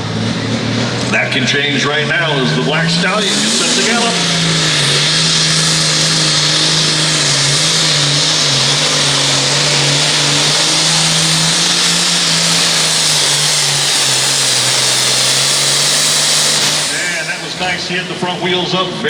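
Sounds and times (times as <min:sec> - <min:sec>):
diesel tractor engine at full load: 0:00.0 - 0:19.0.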